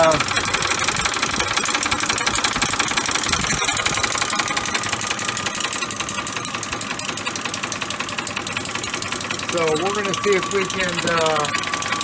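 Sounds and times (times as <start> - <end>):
engine idling with rattling knock: 0.0 - 12.0.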